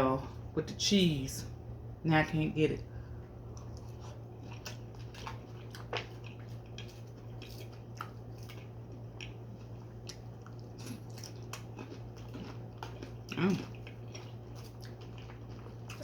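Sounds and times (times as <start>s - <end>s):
steady low hum: 0.0s - 16.0s
person chewing food: 3.2s - 16.0s.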